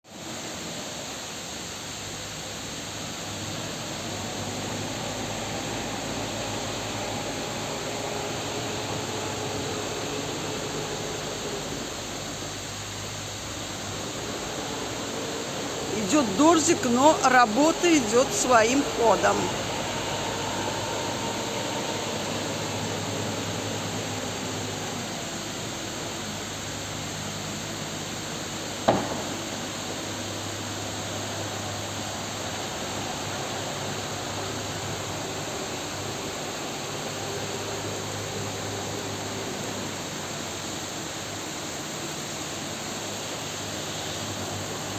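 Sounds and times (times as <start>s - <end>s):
heavy rain hissing: 0.1s - 44.9s.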